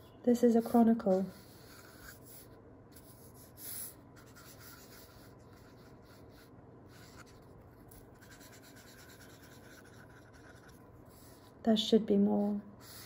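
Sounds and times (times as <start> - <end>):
marker scratching on paper: 0.6 - 11.6.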